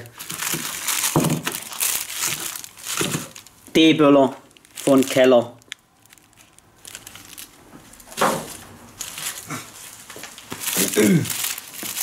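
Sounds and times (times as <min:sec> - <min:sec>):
firecracker packets rustling: 0:00.0 - 0:12.0.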